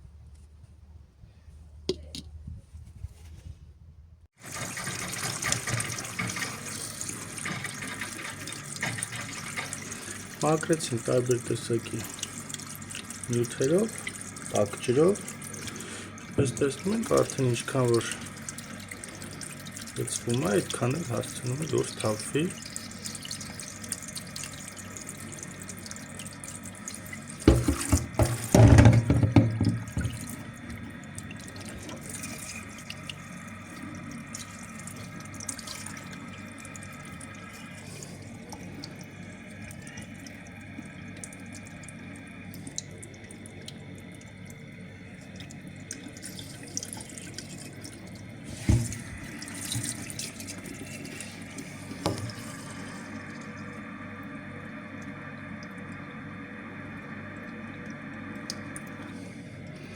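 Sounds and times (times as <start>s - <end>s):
tap water pouring: 4.4s - 59.4s.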